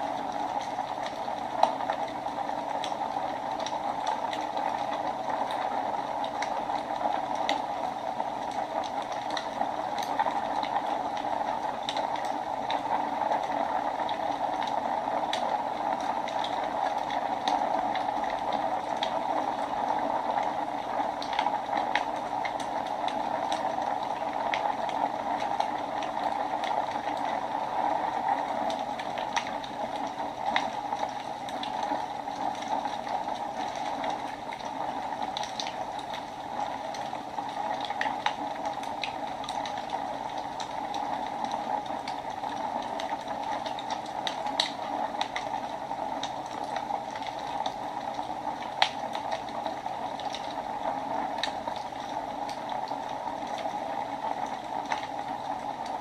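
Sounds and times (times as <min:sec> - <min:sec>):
fire crackles and pops: 0:00.0 - 0:56.0.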